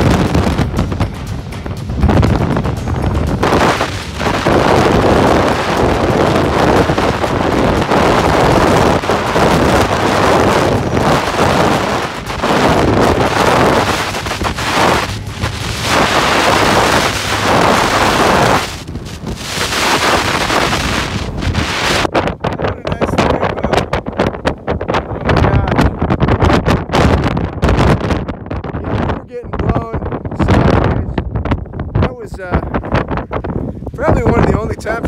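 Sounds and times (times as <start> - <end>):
strong wind on microphone: 0.0 - 35.0.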